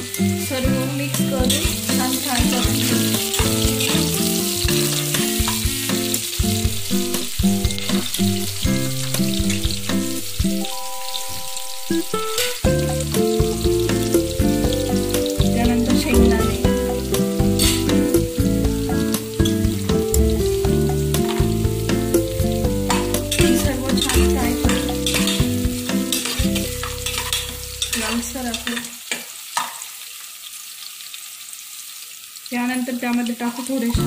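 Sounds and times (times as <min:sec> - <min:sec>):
background music: 0:00.0 - 0:28.6
food sizzling in hot oil: 0:00.0 - 0:34.0.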